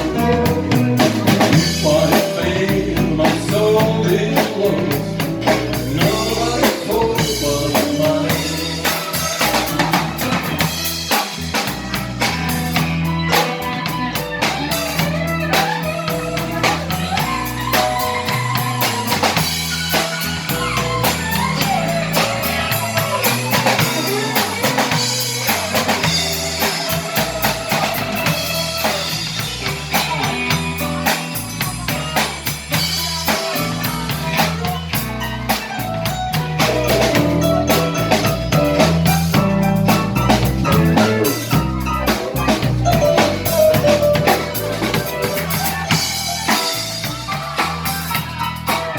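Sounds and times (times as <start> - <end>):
drum kit beat: 0.0 - 48.9
live band playing: 0.0 - 48.9.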